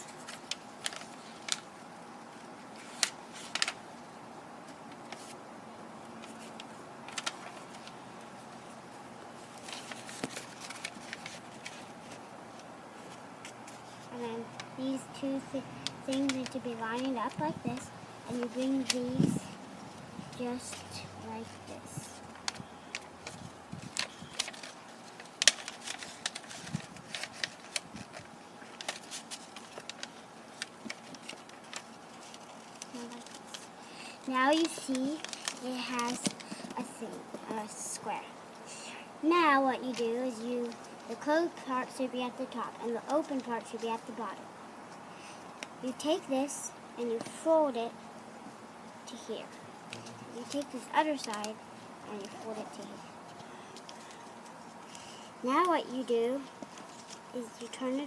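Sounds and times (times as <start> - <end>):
paper being folded and creased: 0.0 - 3.8, 4.9 - 5.4, 6.2 - 38.2, 39.2 - 44.3, 49.1 - 58.0
faint steady hiss: 0.0 - 58.0.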